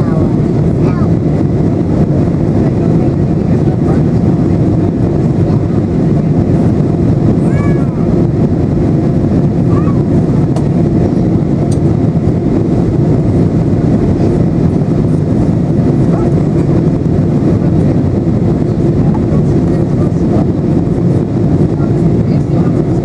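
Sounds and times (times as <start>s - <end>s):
airplane cabin engine rush: 0.0s - 23.0s.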